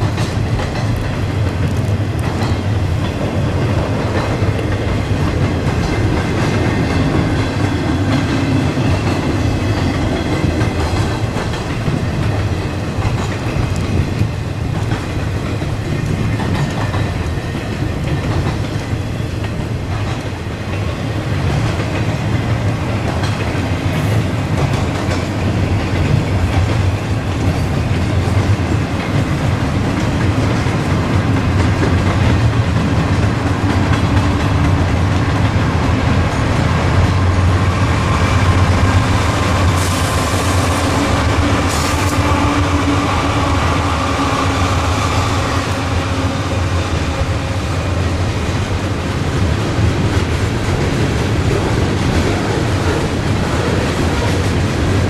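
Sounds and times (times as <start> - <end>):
diesel locomotive engines droning: 0.0 - 55.0
train wheels clattering over rails: 0.0 - 55.0.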